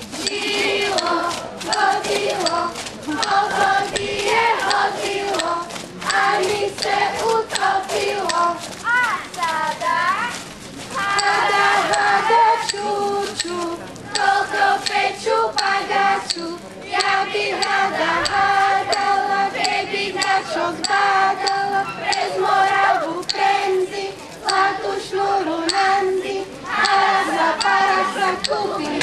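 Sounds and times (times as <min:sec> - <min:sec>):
children singing in chorus: 0:00.0 - 0:08.6, 0:11.0 - 0:29.0.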